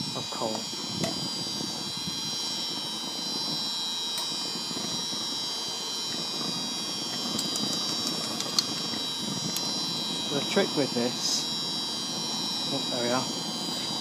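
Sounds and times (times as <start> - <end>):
electric blower fan whirring: 0.0 - 14.0
high whine: 0.0 - 14.0.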